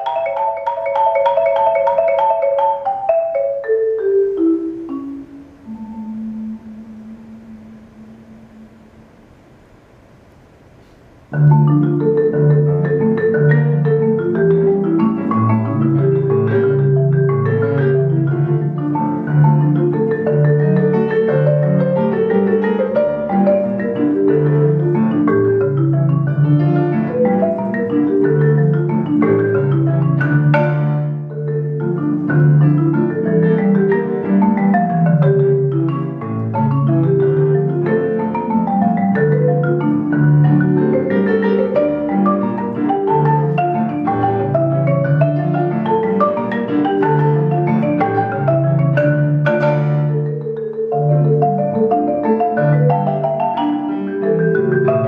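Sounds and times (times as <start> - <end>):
marimba playing: 0.0 - 8.9, 11.3 - 55.0.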